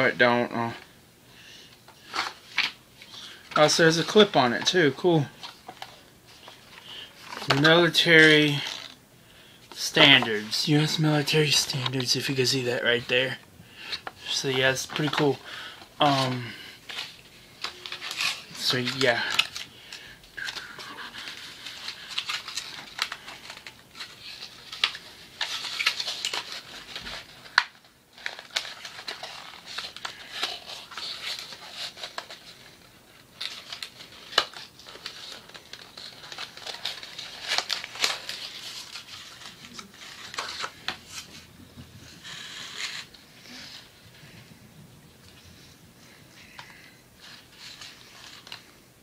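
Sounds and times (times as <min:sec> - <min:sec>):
packaging crinkling and rustling: 0:01.6 - 0:09.0, 0:09.7 - 0:44.4, 0:45.3 - 0:48.8.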